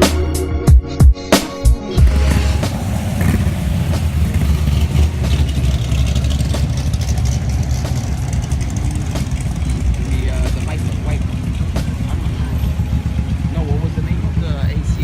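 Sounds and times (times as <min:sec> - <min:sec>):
vehicle engine rumbling: 0:02.0 - 0:15.0.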